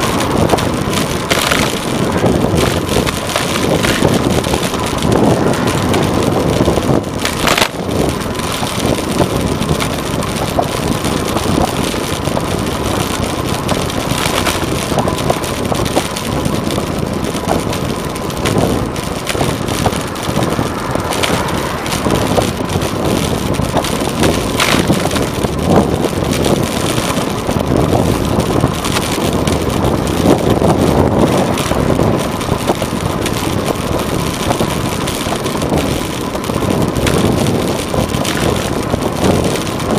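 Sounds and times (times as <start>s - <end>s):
knocks from road bumps: 0.0s - 17.8s, 18.4s - 39.9s
wind and road noise: 0.0s - 39.9s
wind buffeting microphone: 0.0s - 39.9s.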